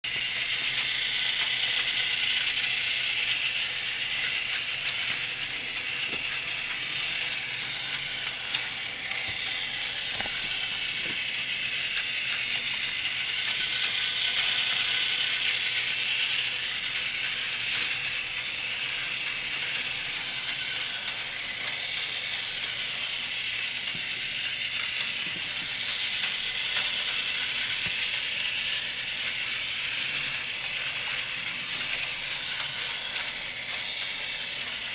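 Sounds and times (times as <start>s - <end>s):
sharp clicks of toy train: 0.1s - 34.9s
toy train motor whirring: 0.1s - 34.9s.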